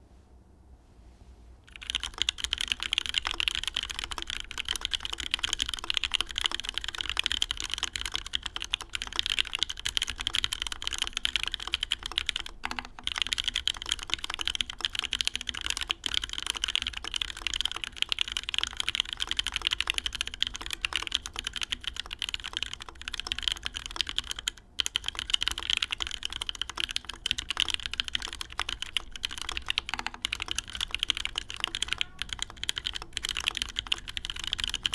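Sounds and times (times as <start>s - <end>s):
fast typing on mechanical keyboard: 1.7s - 34.9s.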